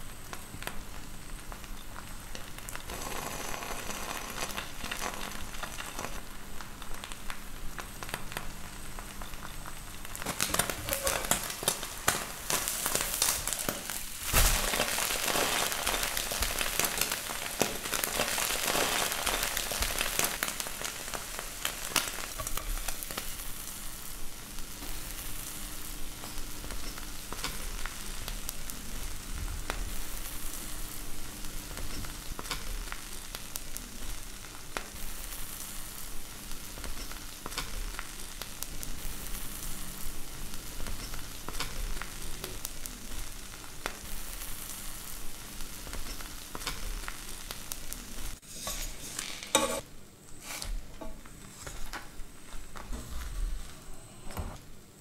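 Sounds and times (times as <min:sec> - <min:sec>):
omelette sizzling in a pan: 0:00.0 - 0:55.0.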